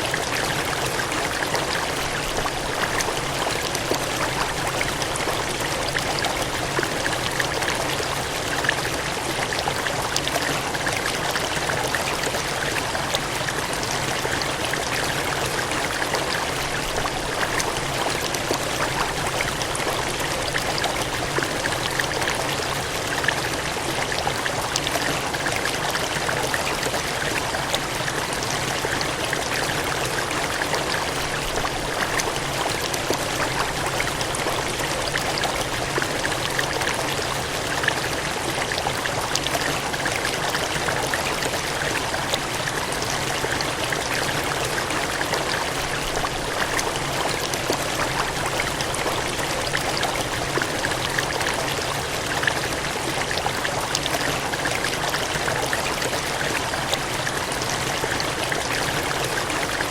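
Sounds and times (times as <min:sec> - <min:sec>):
water gushing and splashing: 0:00.0 - 0:59.9.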